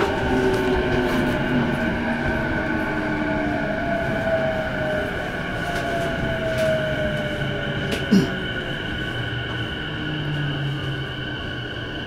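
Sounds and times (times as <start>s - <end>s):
electric train running noise: 0.0s - 12.0s.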